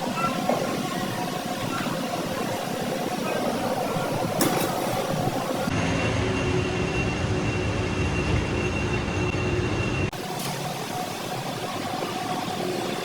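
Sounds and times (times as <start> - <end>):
steady machine noise: 0.0 - 13.0
workshop machinery running: 0.0 - 13.0.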